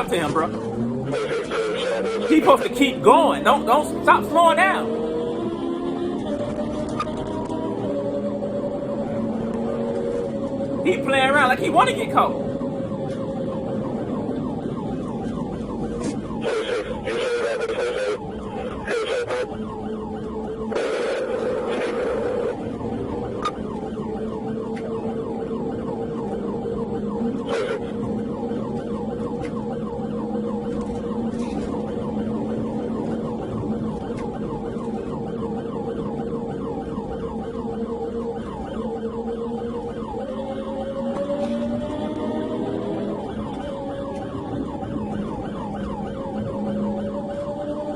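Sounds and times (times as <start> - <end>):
police siren: 0.0 - 47.9.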